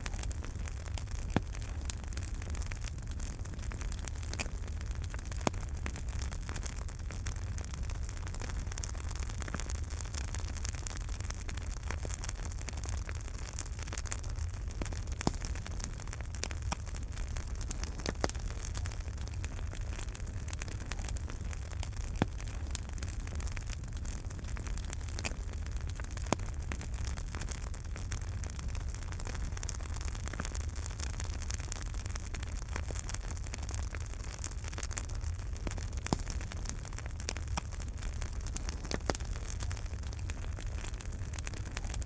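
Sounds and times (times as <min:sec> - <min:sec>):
low rumble of flames: 0:00.0 - 0:42.0
wood fire crackling and popping: 0:00.0 - 0:42.0.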